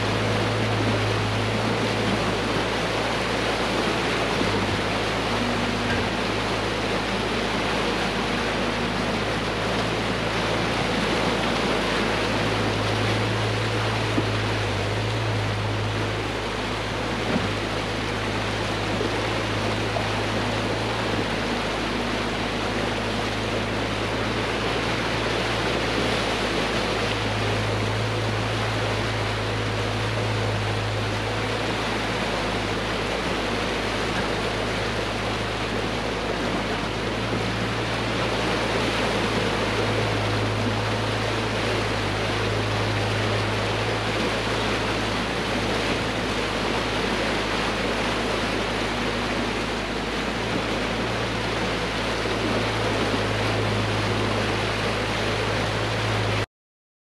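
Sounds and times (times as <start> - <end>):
road and wind noise: 0.0 - 56.4
truck diesel engine drone: 0.0 - 56.5.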